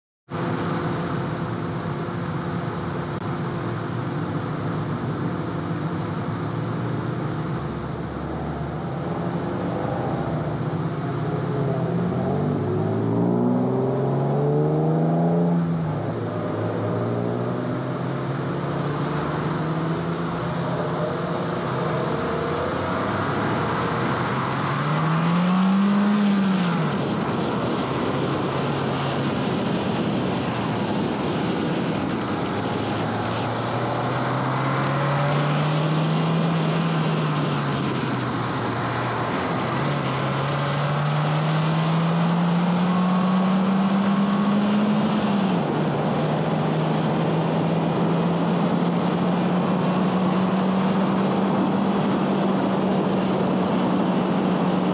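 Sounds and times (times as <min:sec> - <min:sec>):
car engine under load: 0:00.3 - 0:54.9
wind noise: 0:06.4 - 0:54.9.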